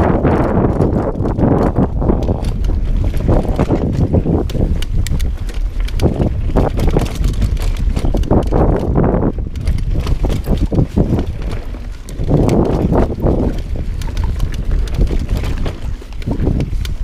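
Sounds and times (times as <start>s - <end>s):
bike rattling and knocking: 0.0s - 17.0s
bike tyres rumbling over dirt: 0.0s - 17.0s
wind buffeting microphone: 0.0s - 17.0s.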